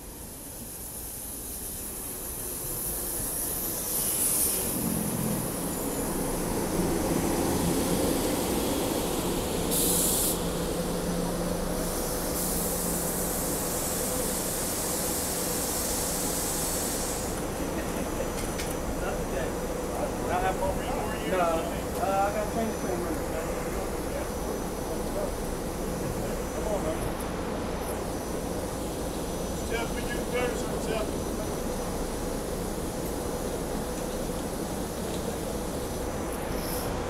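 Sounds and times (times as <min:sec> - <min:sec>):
air hiss: 0:00.0 - 0:37.0
electric train pulling in: 0:00.0 - 0:37.0.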